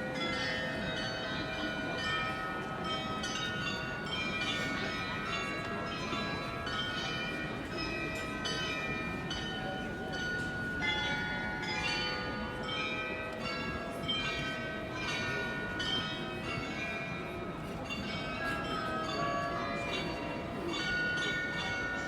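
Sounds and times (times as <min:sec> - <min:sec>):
carillon bells playing a tune: 0:00.0 - 0:22.0.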